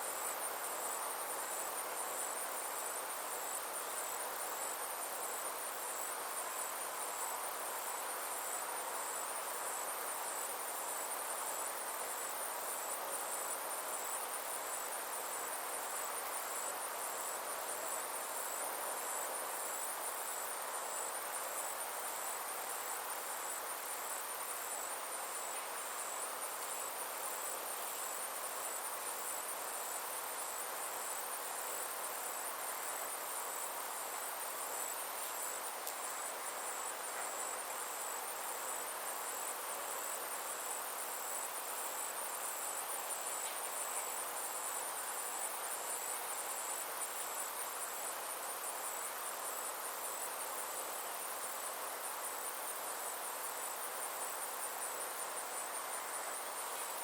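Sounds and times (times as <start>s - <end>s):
insects trilling: 0.0s - 57.0s
outdoor ambient hiss: 0.0s - 57.0s.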